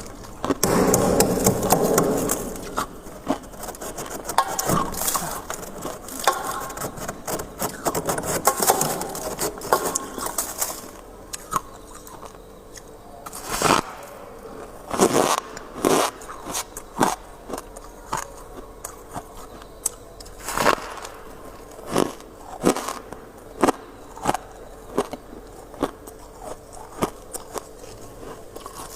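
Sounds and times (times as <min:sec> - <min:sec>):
freezer frost crackling: 0:00.0 - 0:28.9.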